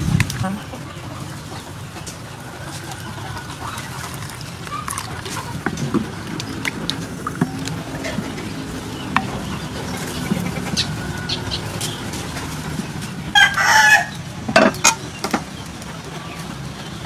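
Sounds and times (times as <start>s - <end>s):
chicken calling: 0.6s - 15.2s.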